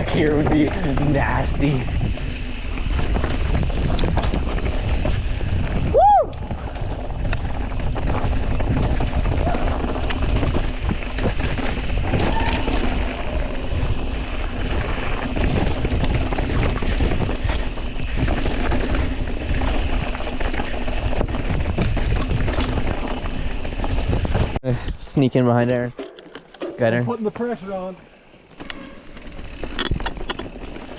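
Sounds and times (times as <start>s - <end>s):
bike clattering: 0.0s - 24.6s, 25.3s - 30.9s
wind buffeting microphone: 0.0s - 25.0s
tyres rolling over rough trail: 0.0s - 30.9s.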